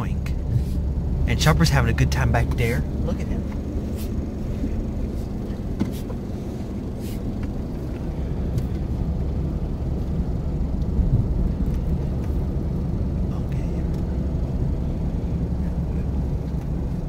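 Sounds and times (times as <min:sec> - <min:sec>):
car engine and tyres rumble: 0:00.0 - 0:17.0.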